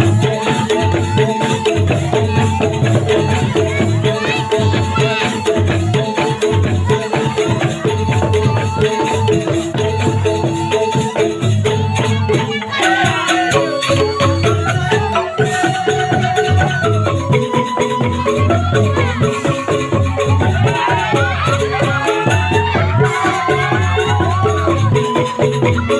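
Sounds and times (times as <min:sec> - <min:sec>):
upbeat music with shaker percussion: 0:00.0 - 0:25.9.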